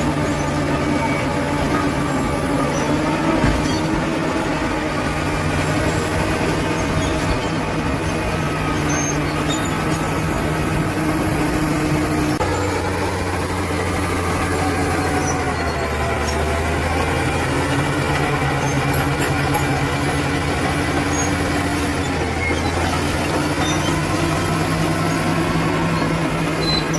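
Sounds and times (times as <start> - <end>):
bulldozer diesel engine running: 0.0 - 26.9.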